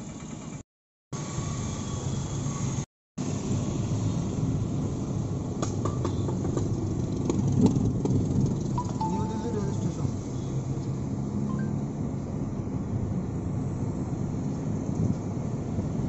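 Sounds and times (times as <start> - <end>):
car engine and tyre rumble: 1.2 - 16.0.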